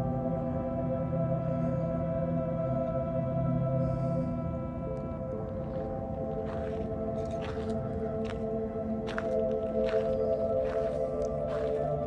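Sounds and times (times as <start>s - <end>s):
ambient drone music: 0.0s - 12.0s.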